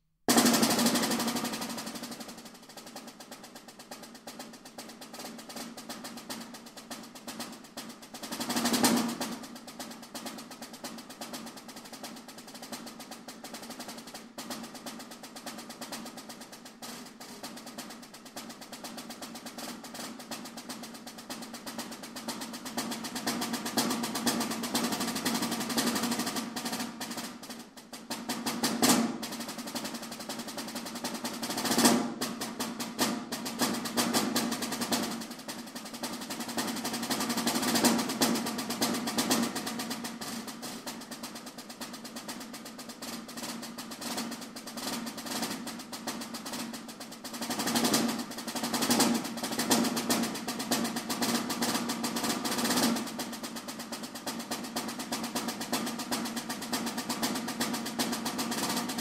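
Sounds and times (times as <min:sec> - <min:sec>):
snare drum rolls: 0:00.3 - 0:59.0.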